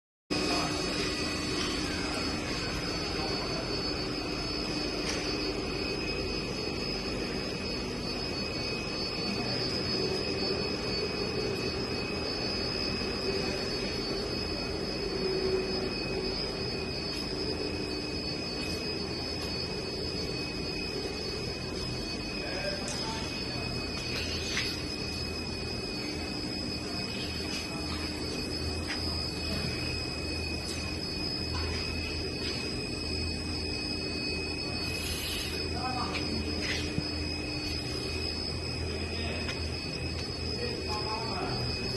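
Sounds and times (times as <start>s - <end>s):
high machinery whine: 0.3s - 41.9s
industrial machinery hum: 0.3s - 41.9s.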